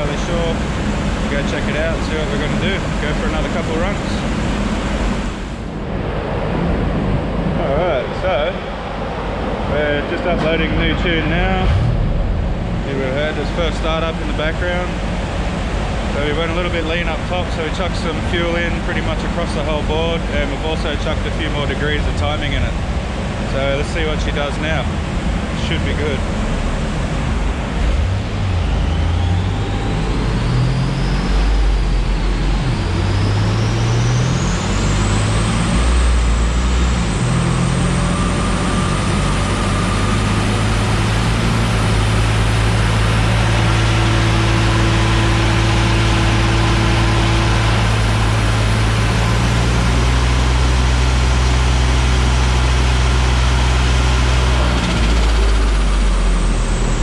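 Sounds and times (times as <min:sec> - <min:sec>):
car engine revving: 0:00.0 - 0:57.0
high whine: 0:00.0 - 0:57.0.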